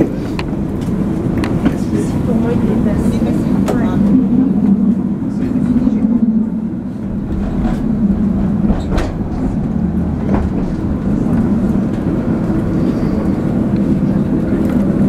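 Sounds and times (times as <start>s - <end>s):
tram low rumble: 0.0s - 15.0s.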